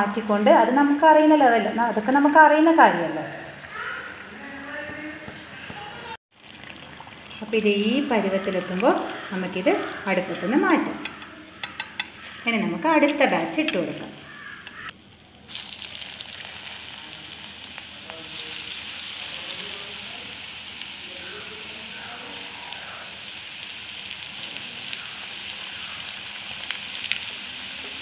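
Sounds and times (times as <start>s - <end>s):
hot oil sizzling: 0.8s - 12.4s, 13.1s - 28.0s.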